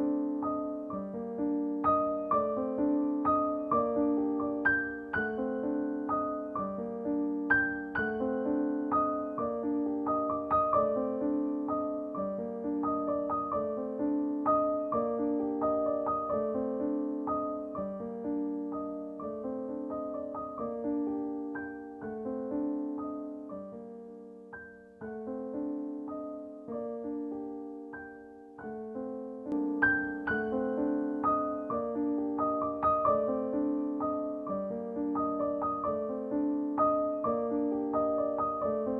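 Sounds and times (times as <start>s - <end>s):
gentle solo piano: 0.0s - 38.9s.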